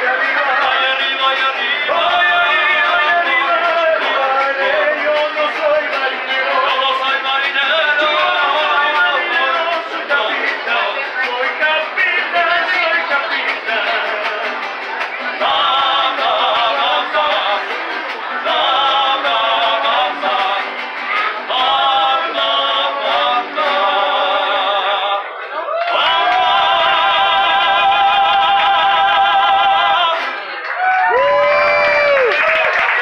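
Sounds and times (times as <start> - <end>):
man singing with vibrato: 0.0 - 30.6.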